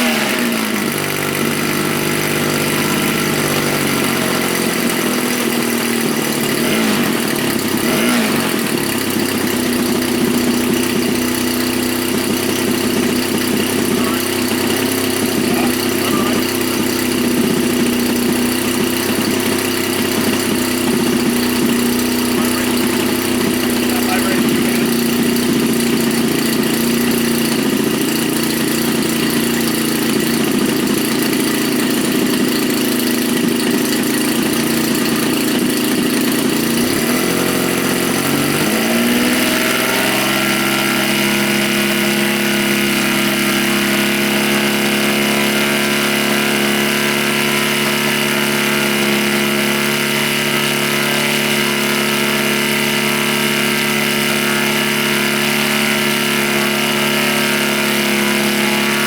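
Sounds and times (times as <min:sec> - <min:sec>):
model airplane engine running: 0:00.0 - 0:59.0.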